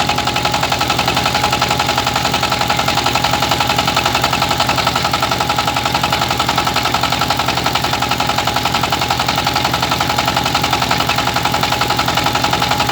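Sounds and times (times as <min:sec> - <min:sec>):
rice milling machine running: 0:00.0 - 0:12.9.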